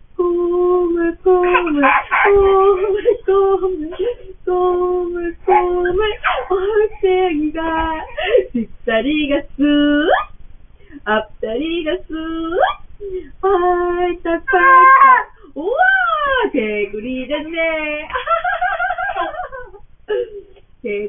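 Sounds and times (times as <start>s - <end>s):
woman singing a children's song: 0.0s - 19.3s, 20.8s - 21.0s.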